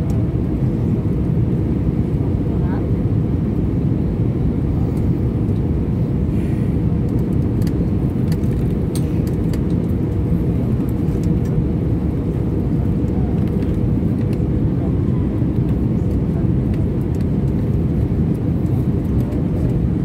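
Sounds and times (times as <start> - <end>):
airliner cabin engine roar: 0.0 - 20.0.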